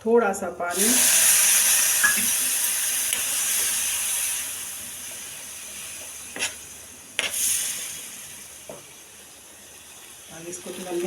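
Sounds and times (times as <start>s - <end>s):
water sizzling in hot pan: 0.7s - 11.0s.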